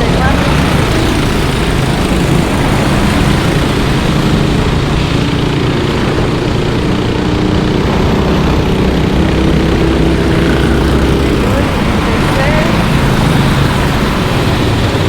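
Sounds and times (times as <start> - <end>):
racing kart engines droning: 0.0 - 15.0.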